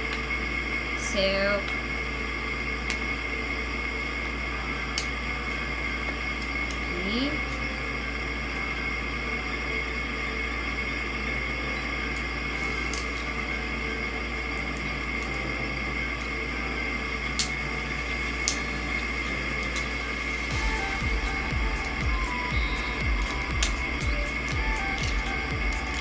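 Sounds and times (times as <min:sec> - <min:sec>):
room hum and hiss: 0:00.0 - 0:26.0.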